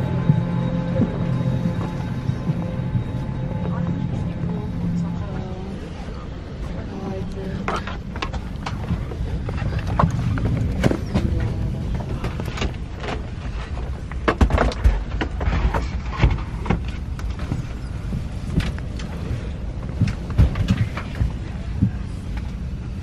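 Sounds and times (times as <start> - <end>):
airliner cabin low rumble: 0.0 - 23.0.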